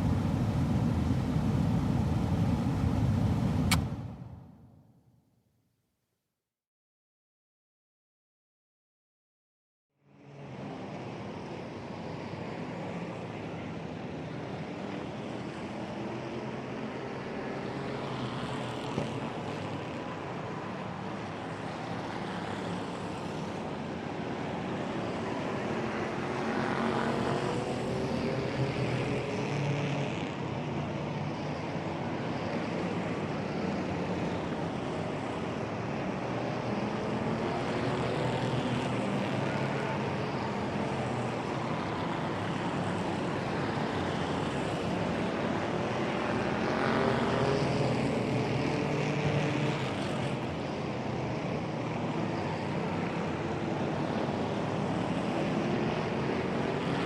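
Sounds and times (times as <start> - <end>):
road noise: 0.0 - 4.6, 10.2 - 57.0.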